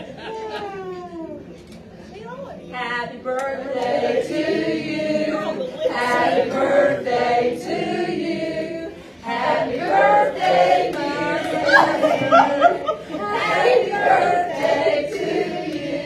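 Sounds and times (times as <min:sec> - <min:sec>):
group of people singing: 0:02.8 - 0:16.0.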